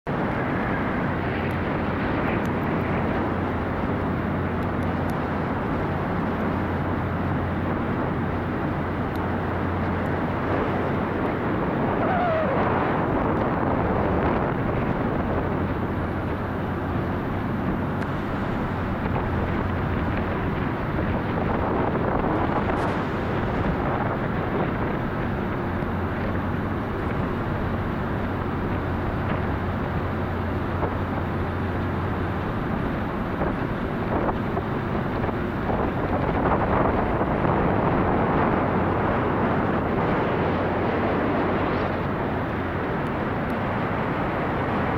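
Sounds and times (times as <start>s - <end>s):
ferry engine drone: 0.0s - 44.9s
wake water rushing: 0.1s - 44.9s.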